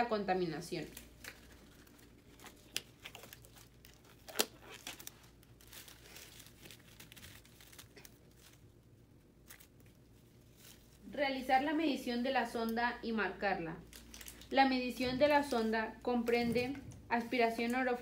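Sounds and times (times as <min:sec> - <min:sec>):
gloves and paper rustling: 0:00.0 - 0:12.7, 0:13.8 - 0:18.0.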